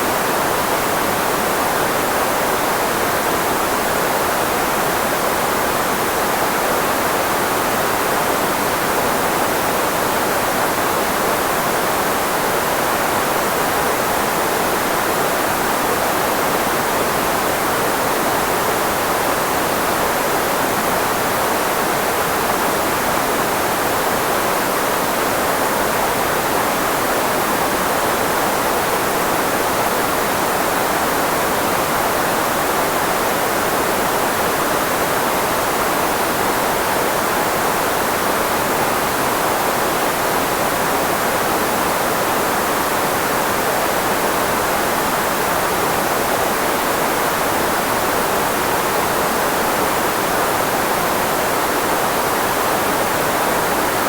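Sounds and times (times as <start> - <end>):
filtered white noise hiss: 0.0 - 54.0.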